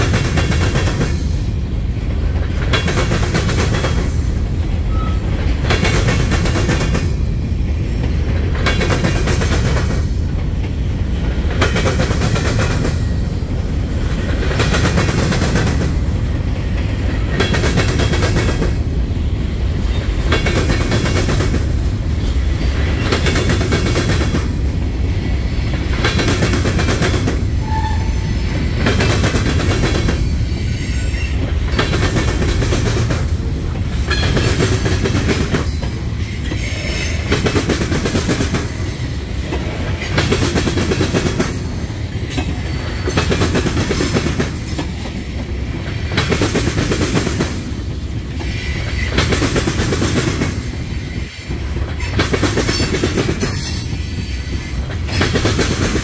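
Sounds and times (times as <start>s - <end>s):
low train rumble: 0.0s - 56.0s
train wheel clatter: 0.0s - 56.0s.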